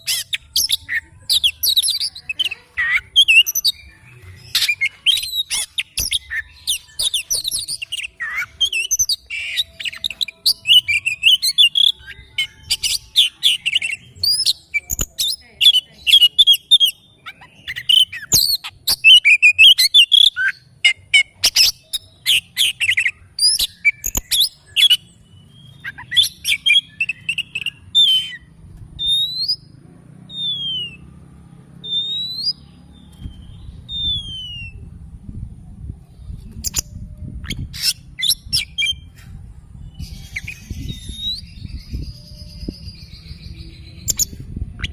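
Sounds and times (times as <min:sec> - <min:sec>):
bird singing chirps and trills: 0:00.0 - 0:44.9.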